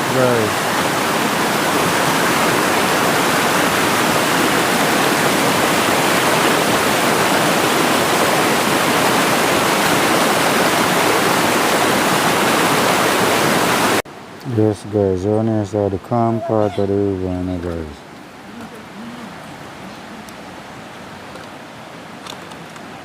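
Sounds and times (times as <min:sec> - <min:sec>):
rushing river water: 0:00.0 - 0:23.0.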